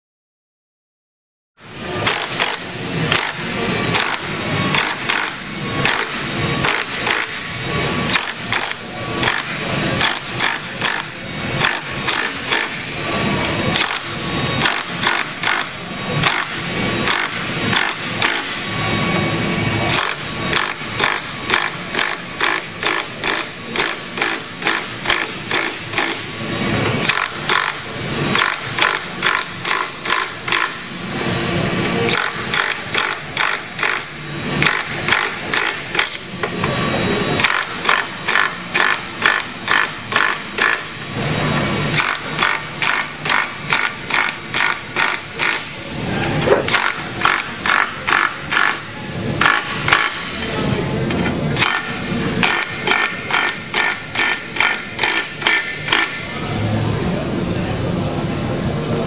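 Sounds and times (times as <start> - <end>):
impact wrench hammering: 1.9 - 12.9, 13.7 - 19.2, 19.8 - 31.0, 31.9 - 45.8, 46.4 - 56.4.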